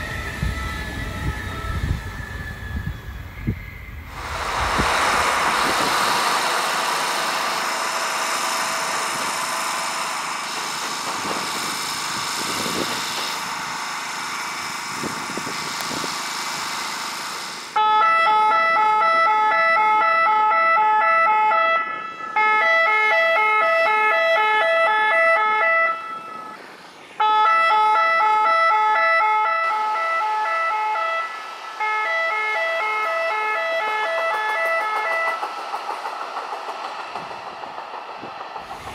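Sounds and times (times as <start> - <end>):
track warning alarm: 0.0 - 17.0, 17.7 - 26.6, 27.2 - 38.9
rail machinery rumbling past: 0.0 - 20.6, 21.5 - 38.9.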